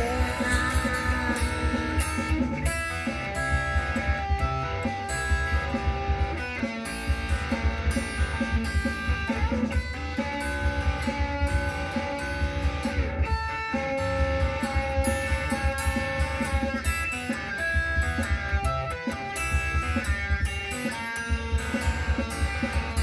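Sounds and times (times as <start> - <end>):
bass guitar: 0.0 - 23.0
electric guitar lead: 0.0 - 23.0
steady drum beat: 0.0 - 23.0
strummed guitar: 0.0 - 23.0.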